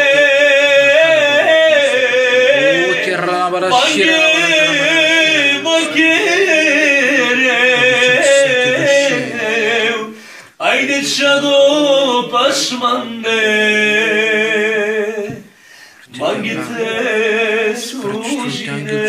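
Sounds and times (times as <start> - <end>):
men singing unaccompanied: 0.0 - 19.0.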